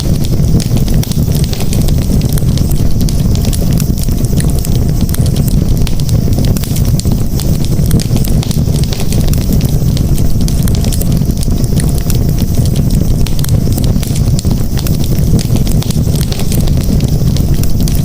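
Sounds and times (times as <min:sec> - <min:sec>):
campfire crackling and popping: 0:00.0 - 0:18.0
low rumble of burning fire: 0:00.0 - 0:18.0.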